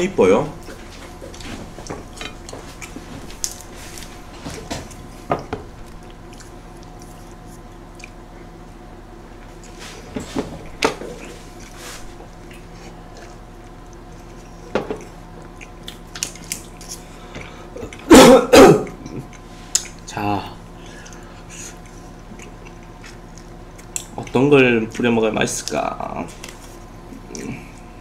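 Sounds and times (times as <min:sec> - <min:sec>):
person chewing a burger: 0:00.6 - 0:18.1, 0:18.8 - 0:24.4, 0:26.3 - 0:28.0.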